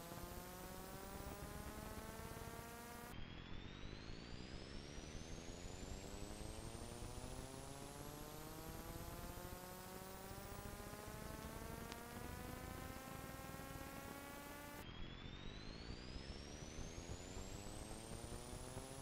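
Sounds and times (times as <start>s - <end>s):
electronic tone gliding upward: 0.0s - 19.0s.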